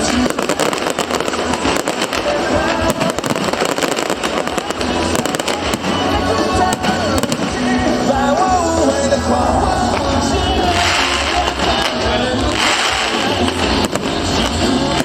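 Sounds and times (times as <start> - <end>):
fireworks bangs and crackles: 0.0 - 15.0
loud music: 0.0 - 15.0
person singing melody: 0.0 - 15.0.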